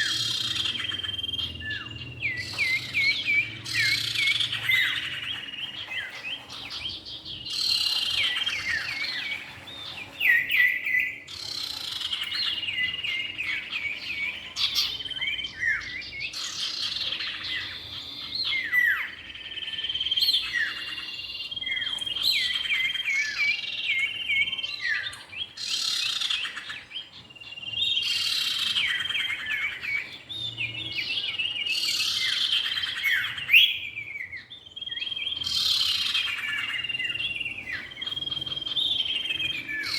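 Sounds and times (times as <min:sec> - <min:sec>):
bird song with chirps and trills: 0:00.0 - 0:39.9.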